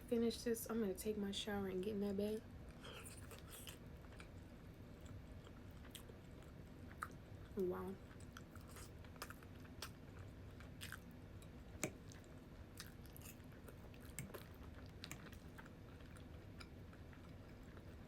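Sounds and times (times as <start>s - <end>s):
person chewing food: 2.7s - 18.0s.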